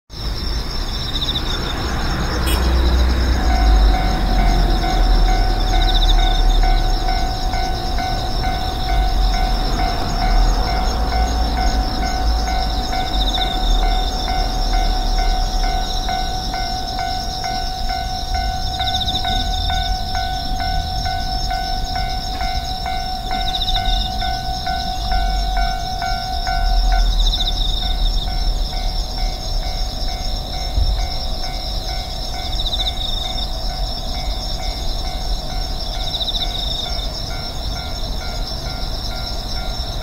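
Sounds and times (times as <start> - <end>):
street ambience: 0.1 - 40.0
train rumbling past: 0.2 - 40.0.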